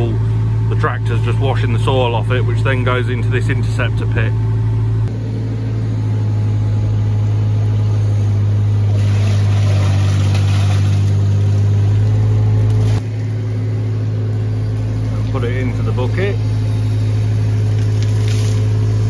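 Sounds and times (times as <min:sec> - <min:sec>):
diesel engine running: 0:00.0 - 0:19.0
hydraulics working bucket: 0:00.0 - 0:19.0.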